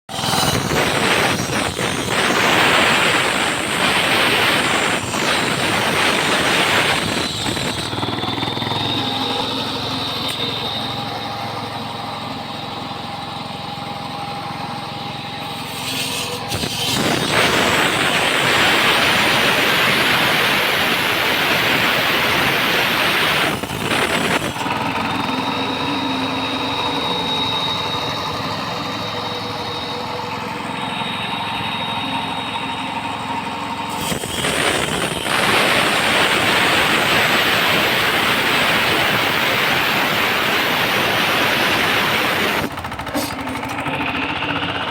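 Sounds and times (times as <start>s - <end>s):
road saw grinding concrete: 0.0s - 44.9s
engine humming: 0.1s - 44.9s.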